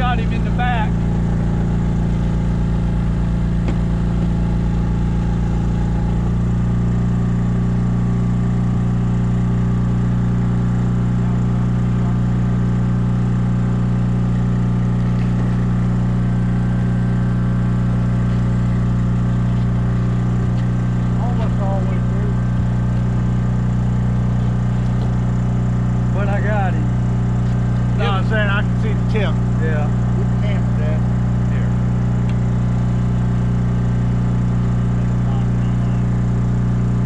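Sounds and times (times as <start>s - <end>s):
small generator droning: 0.0s - 37.0s.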